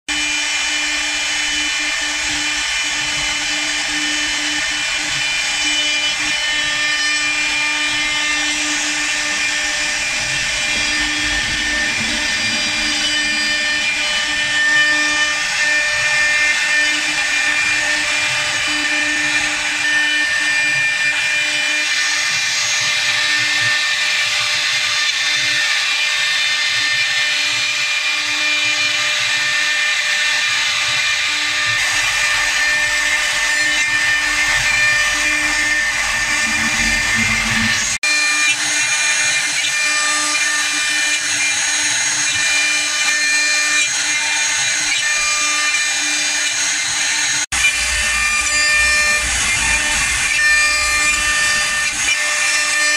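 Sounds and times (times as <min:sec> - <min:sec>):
lathe spindle whine: 0:00.1 - 0:52.9.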